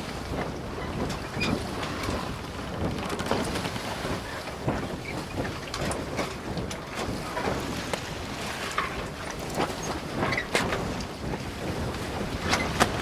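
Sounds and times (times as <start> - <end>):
water slapping against hull: 0.0 - 13.0
wind and water rushing: 0.0 - 13.0.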